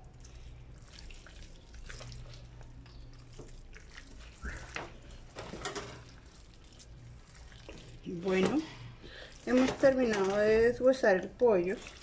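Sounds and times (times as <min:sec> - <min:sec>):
low steady hum: 0:00.0 - 0:12.0
raw chicken squelching on metal: 0:00.0 - 0:12.0.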